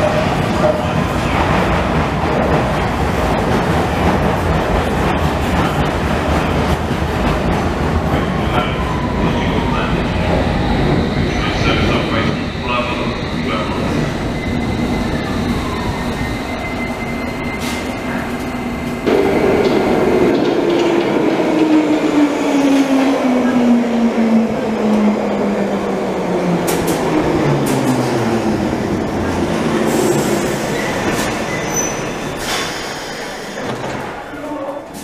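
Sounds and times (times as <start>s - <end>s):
train arriving with falling whine: 0.0s - 35.0s
train moving along platform: 0.0s - 35.0s.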